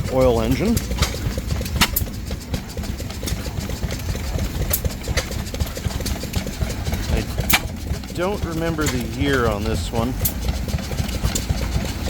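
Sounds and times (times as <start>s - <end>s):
oil engine idling: 0.0s - 12.0s.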